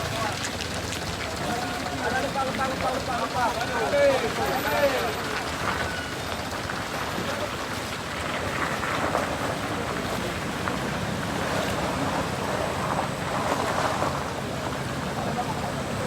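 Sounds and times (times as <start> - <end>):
outdoor noise: 0.0 - 16.0
vehicle engine running: 0.0 - 16.0.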